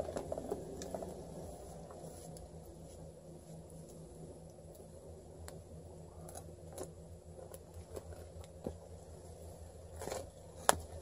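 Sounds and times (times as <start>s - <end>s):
fire crackling: 0.0s - 11.0s
steady low hum: 0.0s - 11.0s.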